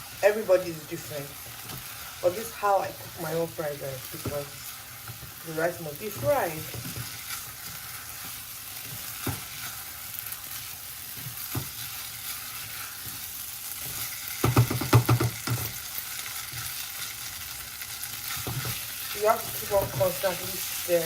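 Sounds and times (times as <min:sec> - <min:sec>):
rice sizzling in butter: 0:00.0 - 0:21.0.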